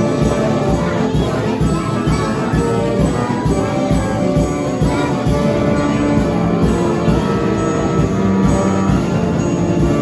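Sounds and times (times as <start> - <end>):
orchestrion playing a tune: 0.0 - 10.0
steady drum beat: 0.0 - 10.0.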